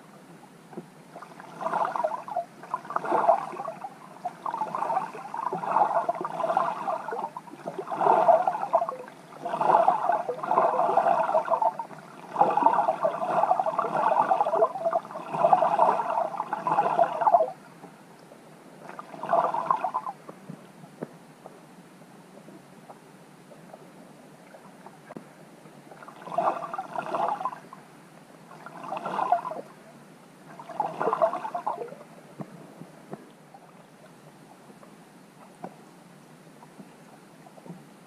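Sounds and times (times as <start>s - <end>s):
muffled water sloshing underwater: 0.0s - 38.0s.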